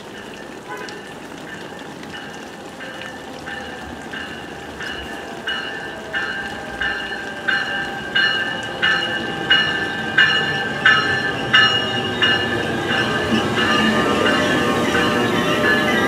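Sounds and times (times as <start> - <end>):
locomotive bell ringing: 0.0 - 16.0
train rumbling: 0.0 - 16.0.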